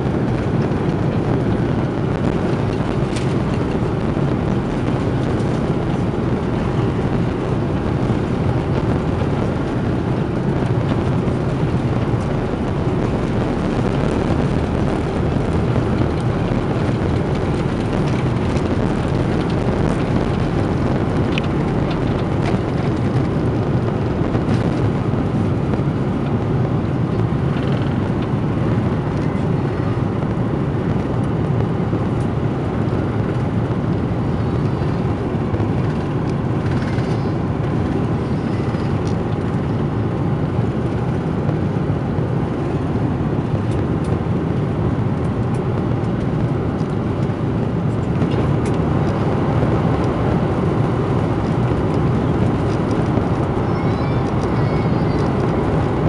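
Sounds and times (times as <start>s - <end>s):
jet engines roaring in cabin: 0.0s - 56.0s
rushing air: 0.0s - 56.0s.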